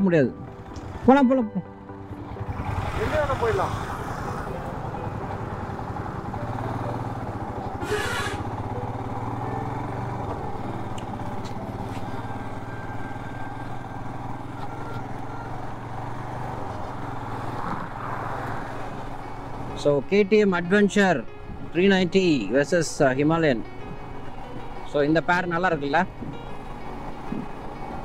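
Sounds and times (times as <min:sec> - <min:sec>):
motorcycle engine riding: 0:00.4 - 0:01.2, 0:01.9 - 0:28.0.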